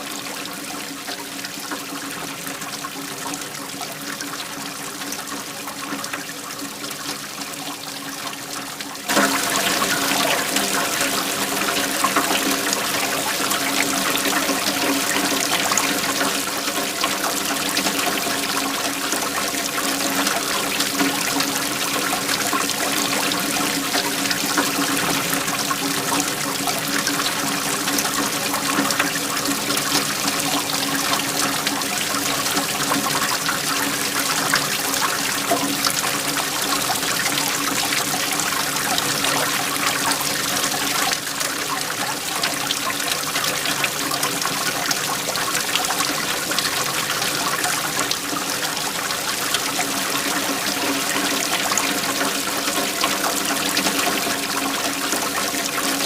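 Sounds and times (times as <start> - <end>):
waterfall rushing and splashing: 9.0 - 56.0.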